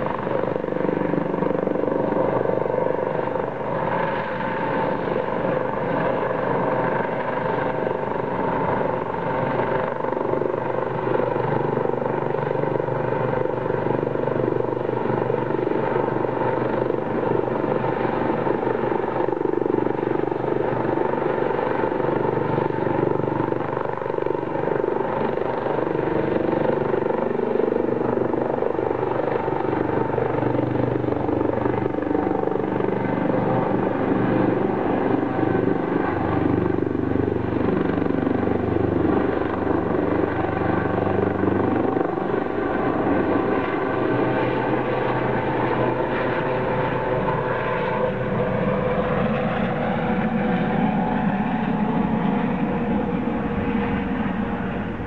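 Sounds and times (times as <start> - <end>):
helicopter flying close by: 0.0 - 55.0.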